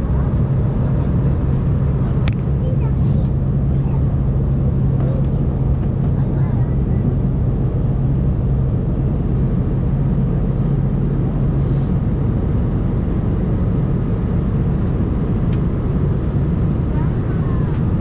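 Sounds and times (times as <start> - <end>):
airliner cabin engine noise: 0.0 - 18.0.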